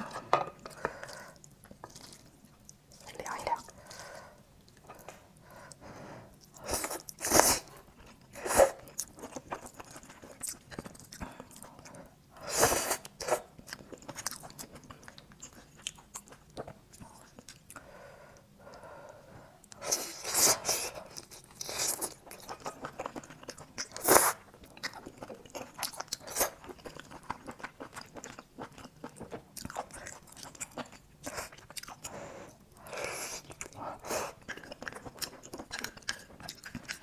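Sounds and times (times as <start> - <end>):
person chewing: 0.0 - 4.0, 6.4 - 12.0, 12.7 - 17.8, 19.6 - 37.0.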